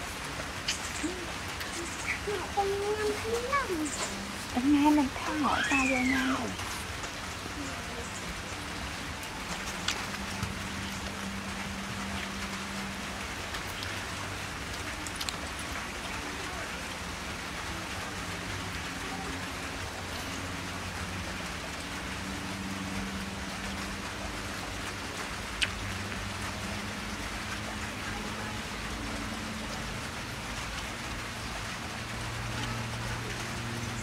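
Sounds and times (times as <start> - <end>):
rain-like hiss: 0.0 - 34.0.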